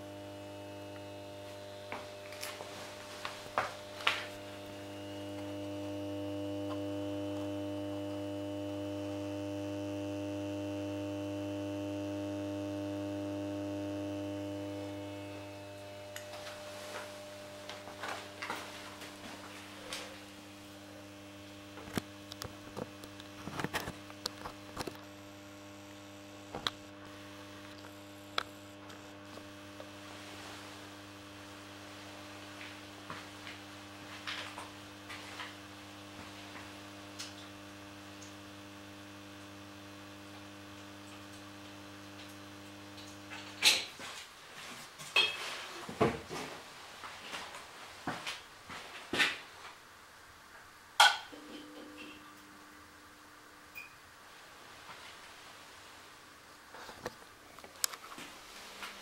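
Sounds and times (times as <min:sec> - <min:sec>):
lamp ballast humming: 0:00.0 - 0:44.1, 0:51.0 - 0:54.2.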